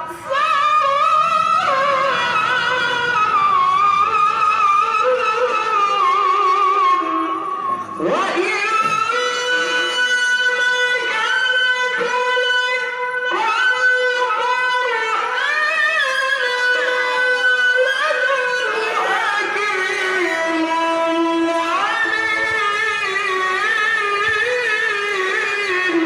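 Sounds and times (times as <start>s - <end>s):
man reciting in high melismatic voice: 0.0s - 26.0s.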